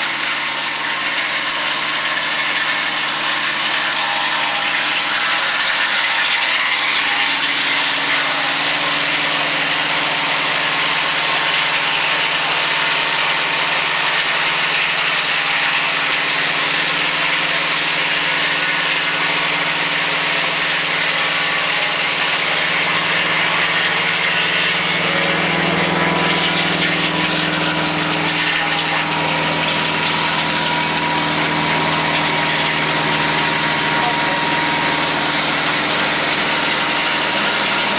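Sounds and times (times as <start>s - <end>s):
sawmill engine running: 0.0s - 37.9s.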